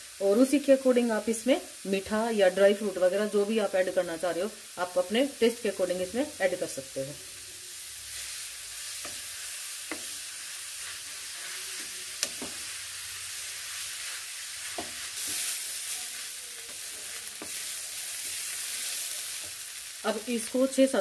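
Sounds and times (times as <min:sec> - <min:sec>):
carrots sizzling in a pan: 0:00.0 - 0:21.0.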